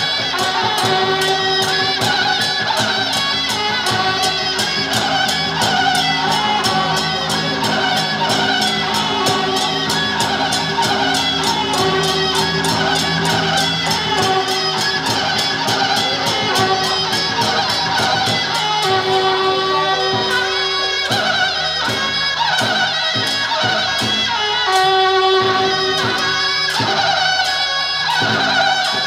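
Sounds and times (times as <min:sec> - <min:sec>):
steady percussion beat: 0:00.0 - 0:29.0
traditional music melody: 0:00.0 - 0:29.0.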